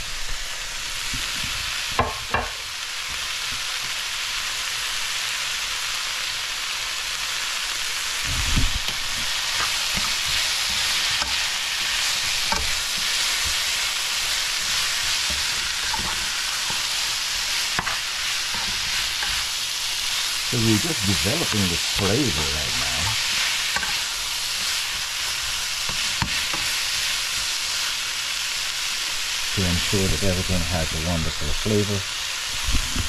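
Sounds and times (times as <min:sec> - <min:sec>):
vegetables sizzling in a wok: 0:00.0 - 0:33.0.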